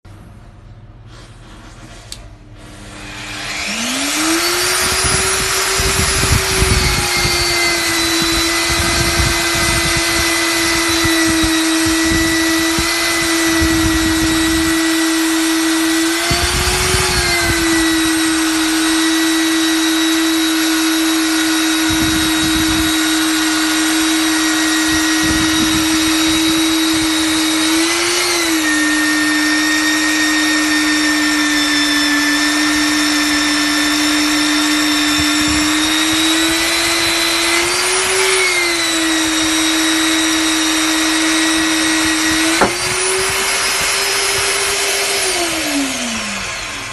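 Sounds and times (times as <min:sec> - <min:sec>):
drill motor whining: 0:02.6 - 0:46.9.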